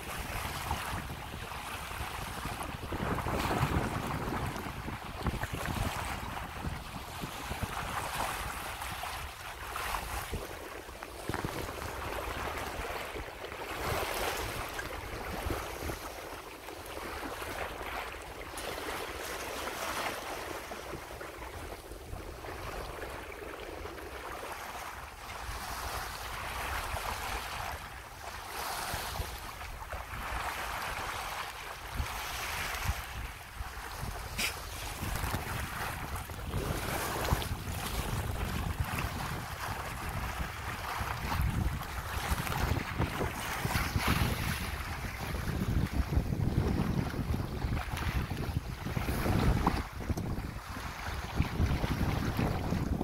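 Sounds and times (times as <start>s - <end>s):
water splashing along boat hull: 0.0s - 53.0s
wind rumble on microphone: 0.0s - 53.0s.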